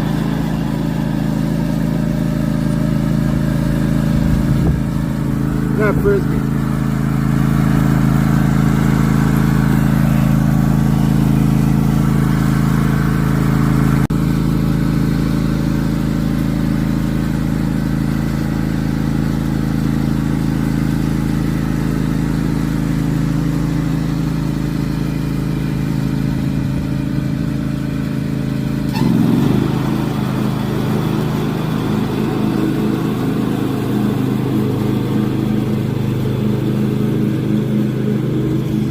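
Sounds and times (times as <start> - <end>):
riding lawnmower engine running: 0.0 - 38.9.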